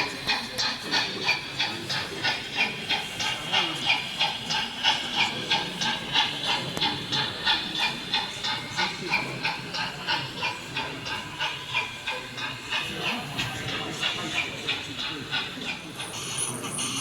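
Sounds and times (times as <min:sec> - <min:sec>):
model steam locomotive chuffing: 0:00.0 - 0:17.0
steam hiss: 0:00.0 - 0:17.0.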